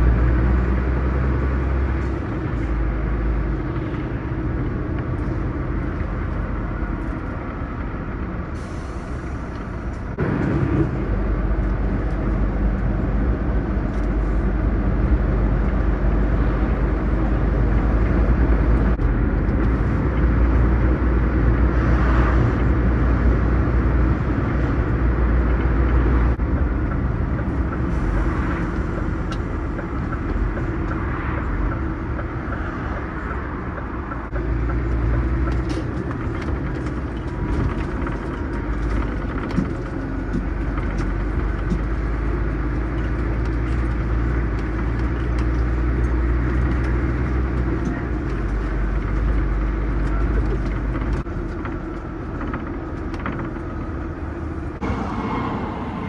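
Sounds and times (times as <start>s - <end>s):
truck engine and tyres rumbling: 0.0s - 56.0s.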